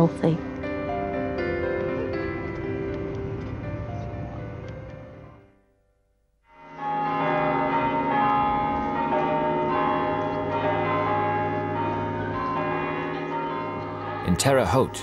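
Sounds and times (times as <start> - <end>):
church bells pealing: 0.0 - 5.3, 6.5 - 15.0.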